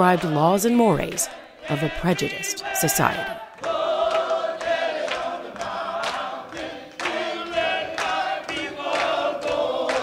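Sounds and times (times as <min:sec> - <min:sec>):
choir singing slow song: 0:00.0 - 0:10.0.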